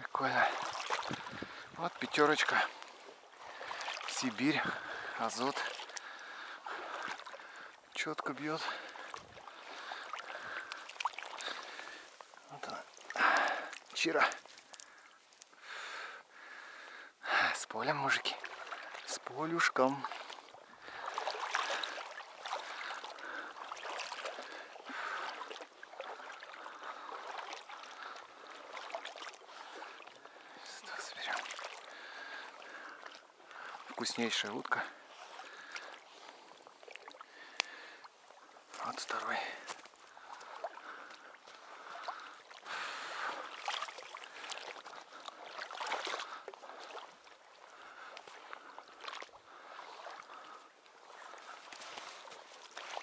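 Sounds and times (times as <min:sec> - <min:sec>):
water sloshing: 0:00.0 - 0:53.0.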